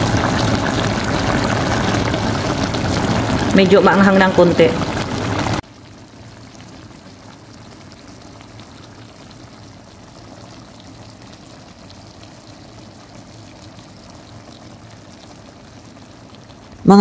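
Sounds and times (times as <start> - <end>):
broth simmering in a wok: 0.0 - 17.0.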